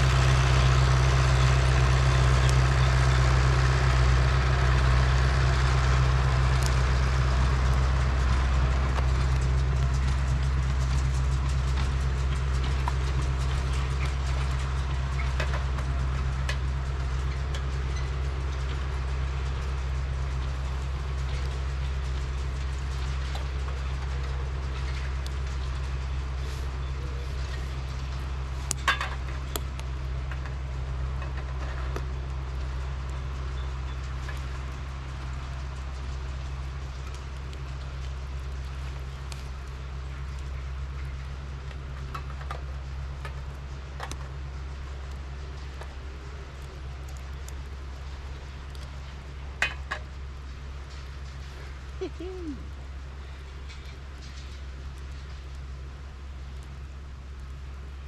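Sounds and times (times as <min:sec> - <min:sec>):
heavy engine humming: 0:00.0 - 0:58.0.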